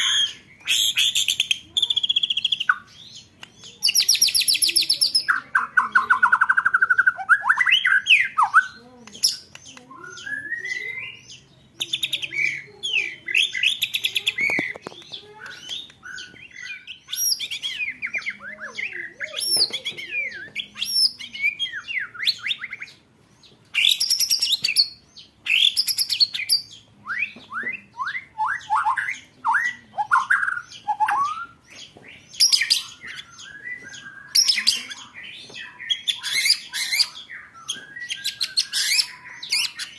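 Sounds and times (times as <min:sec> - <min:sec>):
songbird trills and whistles: 0:00.0 - 0:23.0, 0:23.8 - 0:39.9.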